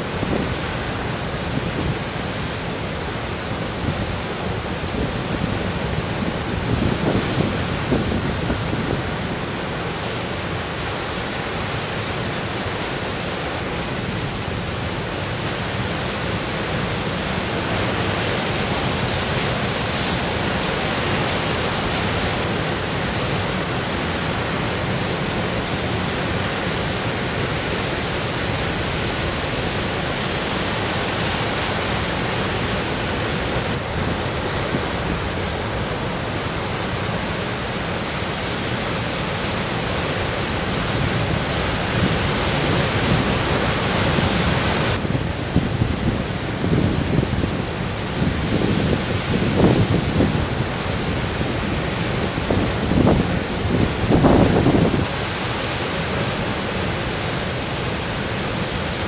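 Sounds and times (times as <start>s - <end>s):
heavy storm surf: 0.0s - 59.0s.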